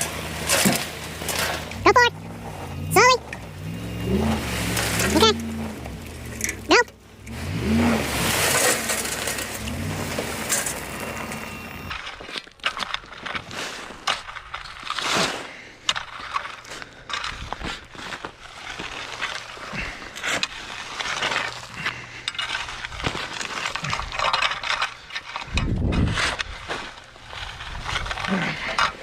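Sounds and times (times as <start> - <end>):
rake scraping through gravel: 0.0 - 29.0.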